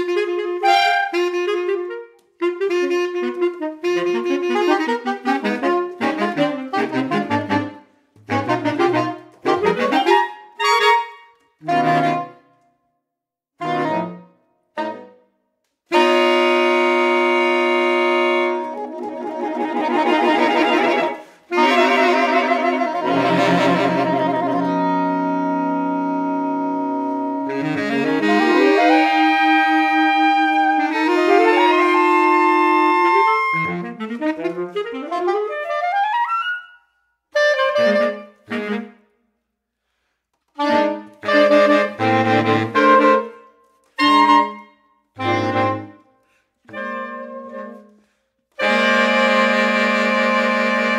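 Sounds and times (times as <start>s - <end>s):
saxophone quartet playing: 0.0s - 12.6s, 13.6s - 15.2s, 15.9s - 39.2s, 40.4s - 50.9s.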